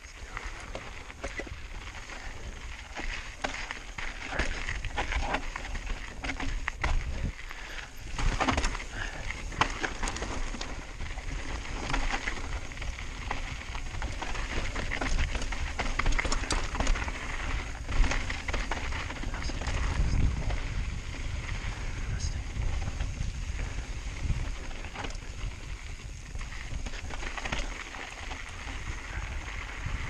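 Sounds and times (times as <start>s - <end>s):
bike clicks and rattles: 0.0s - 30.0s
tyres crunching over gravel: 0.0s - 30.0s
wind rumbling on microphone: 0.0s - 30.0s.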